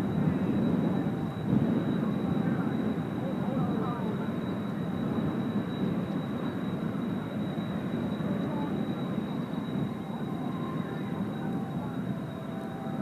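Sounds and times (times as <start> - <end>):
high jet whine: 0.0 - 13.0.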